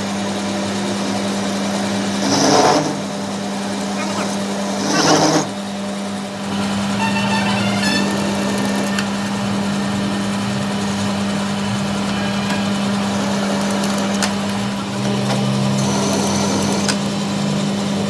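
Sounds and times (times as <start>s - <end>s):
machine motor humming: 0.2s - 18.0s.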